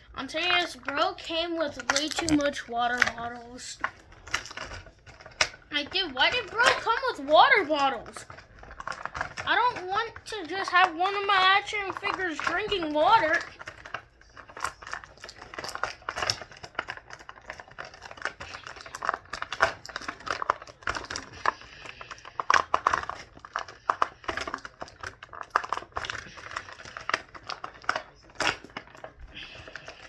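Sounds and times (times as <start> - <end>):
plastic packaging crinkling: 0.0 - 30.0
plastic clicks and snaps: 0.4 - 30.0.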